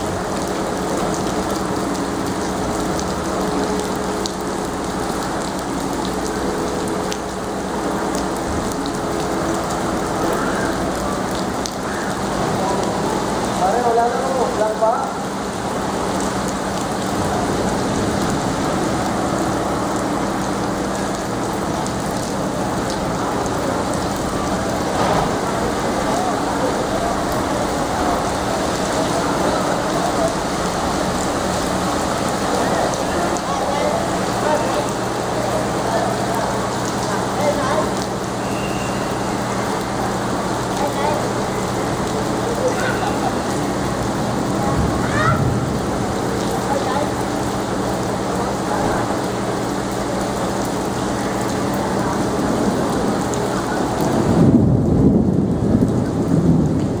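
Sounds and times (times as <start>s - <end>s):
heavy rain on flooded street: 0.0s - 57.0s.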